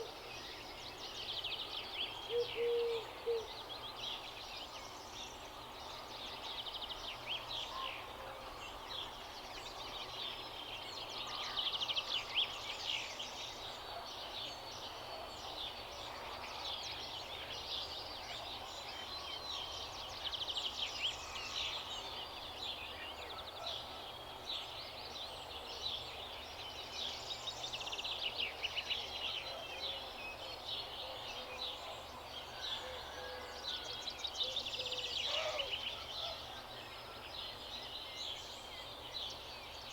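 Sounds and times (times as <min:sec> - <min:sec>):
faint outdoor background: 0:00.0 - 0:39.9
small birds chirping and twittering: 0:00.0 - 0:39.9.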